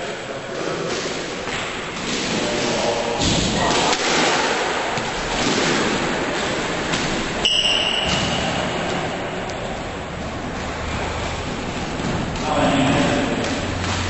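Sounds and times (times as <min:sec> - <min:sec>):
steady rushing noise: 0:00.0 - 0:14.0
squash ball thudding: 0:00.6 - 0:14.0.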